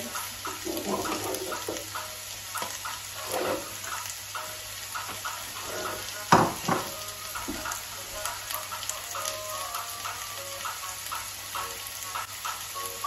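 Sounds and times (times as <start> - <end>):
vegetables sizzling in a frying pan: 0.0 - 13.0
water boiling in a pot: 0.0 - 13.0.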